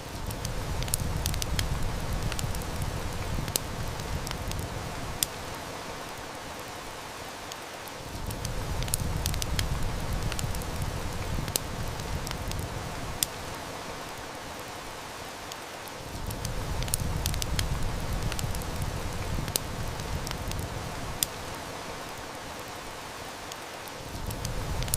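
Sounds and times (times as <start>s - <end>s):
heavy rain hiss: 0.0s - 24.9s
wood fire crackling: 0.0s - 24.9s.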